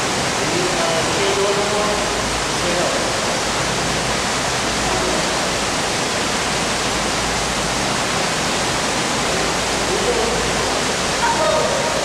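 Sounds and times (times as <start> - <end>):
steady rushing water: 0.0 - 12.0.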